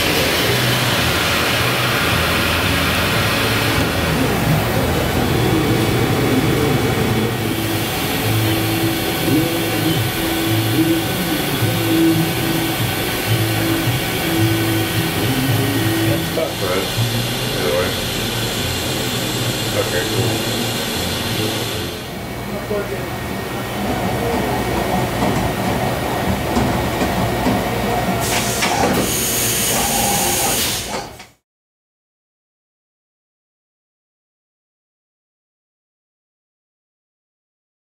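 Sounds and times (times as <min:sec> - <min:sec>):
milling machine running: 0:00.0 - 0:31.0.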